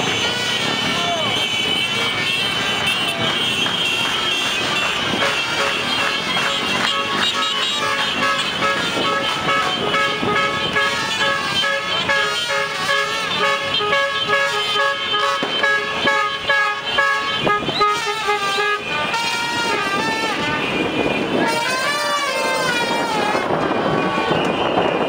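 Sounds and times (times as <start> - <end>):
cars and motorbikes passing: 0.0 - 25.0
vehicle horns honking: 0.0 - 25.0.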